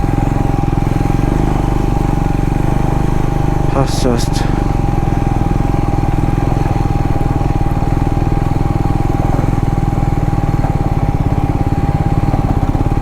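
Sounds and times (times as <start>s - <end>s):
thin steady whine: 0.0s - 11.7s
motorcycle engine running: 0.0s - 13.0s.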